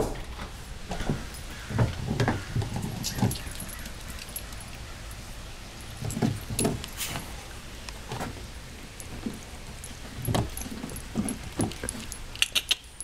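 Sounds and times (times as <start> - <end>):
dogs eating from bowls: 1.3 - 12.3.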